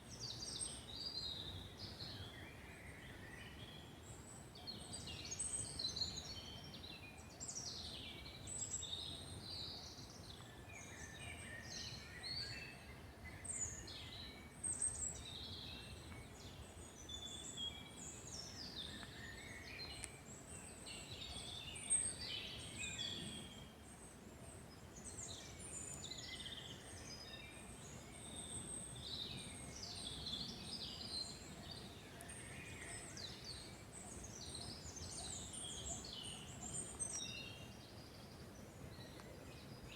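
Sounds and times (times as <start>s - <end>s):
faint background hiss: 0.0s - 39.9s
songbirds singing and chirping: 0.0s - 39.9s.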